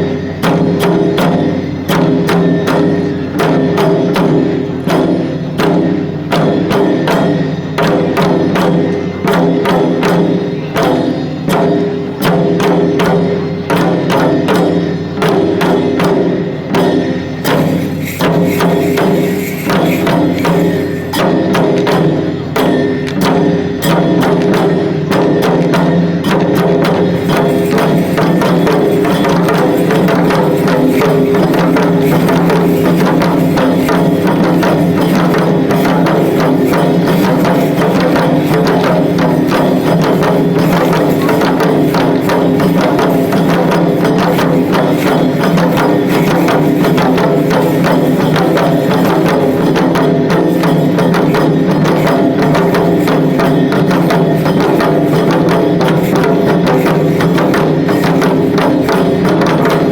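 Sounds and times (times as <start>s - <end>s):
drum beaten in fast rhythm: 0.0s - 59.9s
sharp clacking percussion: 0.0s - 59.9s.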